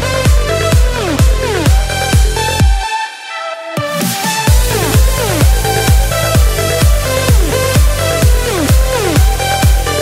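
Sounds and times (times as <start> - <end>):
kick drum beat: 0.0 - 2.9, 3.9 - 10.0
held synth chords: 0.0 - 10.0.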